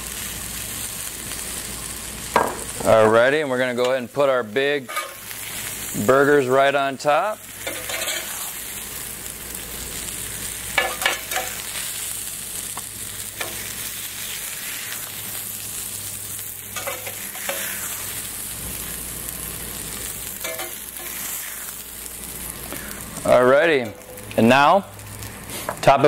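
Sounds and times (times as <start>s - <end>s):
burger patties sizzling on griddle: 0.0s - 26.0s.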